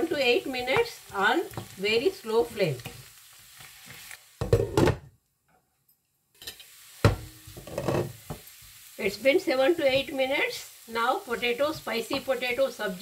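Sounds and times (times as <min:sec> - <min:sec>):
spatula stirring potatoes in a pan: 0:00.0 - 0:04.7, 0:06.4 - 0:13.0
faint sizzling: 0:00.0 - 0:05.0, 0:06.4 - 0:13.0.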